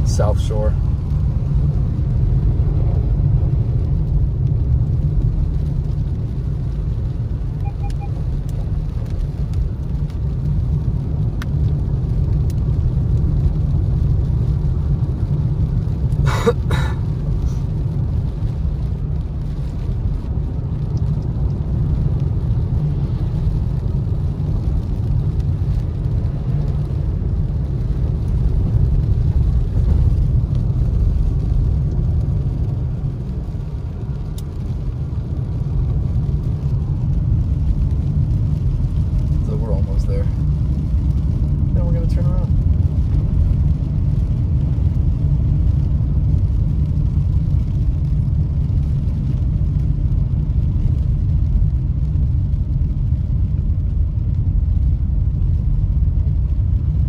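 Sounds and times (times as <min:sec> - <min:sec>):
car engine and tyres on wet road: 0:00.0 - 0:57.0.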